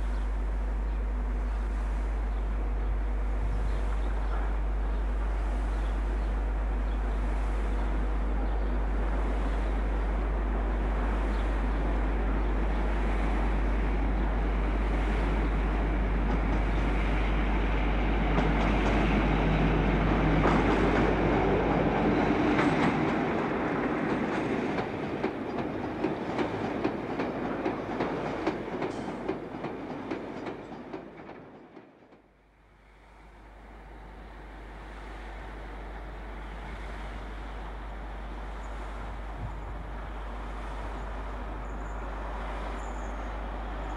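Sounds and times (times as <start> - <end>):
diesel locomotive engine: 0.0 - 43.9
distant train approaching: 0.0 - 43.9.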